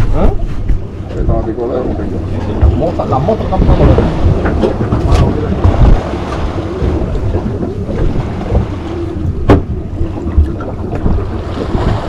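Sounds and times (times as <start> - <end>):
water noise: 0.0 - 12.0
wind buffeting microphone: 0.0 - 12.0.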